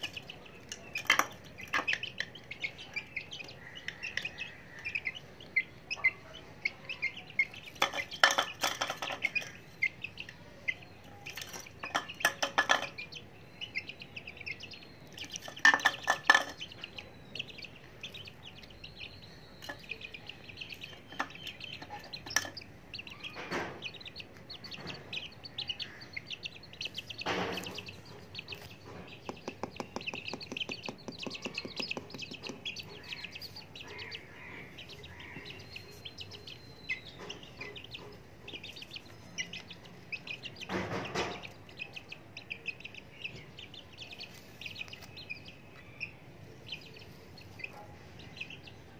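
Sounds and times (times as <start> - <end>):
chicks pecking on a plate: 0.0 - 48.9
chicks peeping: 0.0 - 48.9.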